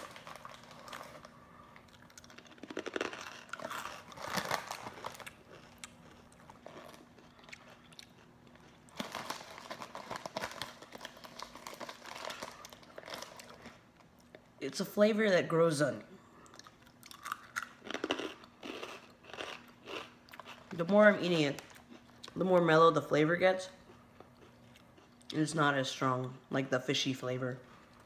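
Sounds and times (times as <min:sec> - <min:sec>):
chewing crunchy snacks: 0:00.0 - 0:14.4, 0:16.4 - 0:22.8, 0:23.6 - 0:25.6.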